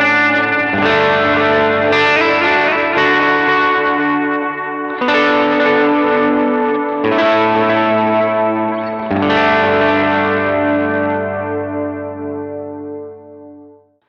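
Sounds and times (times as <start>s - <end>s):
overdriven electric guitar chords: 0.0s - 14.0s.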